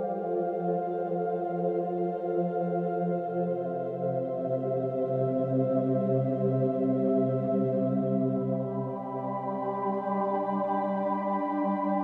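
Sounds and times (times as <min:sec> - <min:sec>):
ambient music sustained chords: 0:00.0 - 0:12.0.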